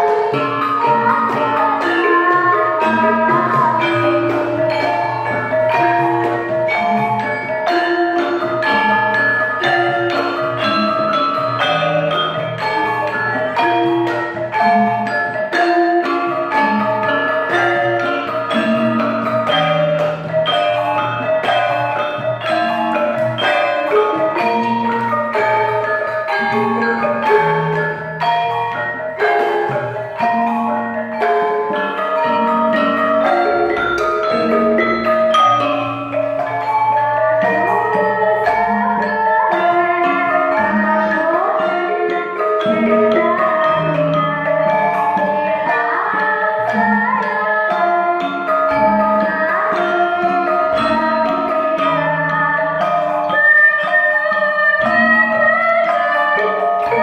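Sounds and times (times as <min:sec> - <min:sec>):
gamelan metallophones ringing: 0:00.0 - 0:57.0
hand drumming: 0:00.0 - 0:57.0.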